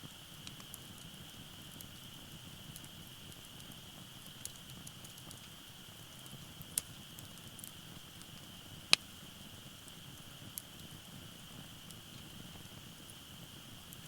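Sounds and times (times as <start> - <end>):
wood fire crackling: 0.0 - 14.0
firewood popping: 0.3 - 14.0.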